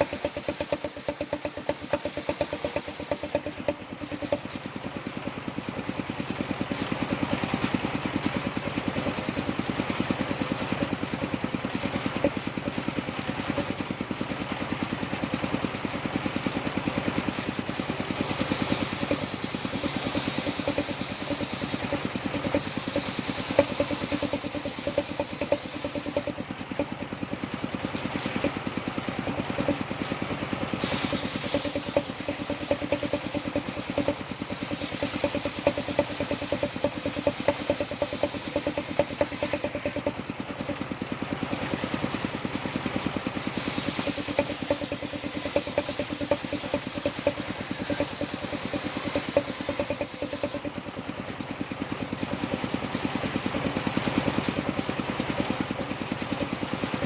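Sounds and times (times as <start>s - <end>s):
sawing machine engine running: 0.0s - 57.0s.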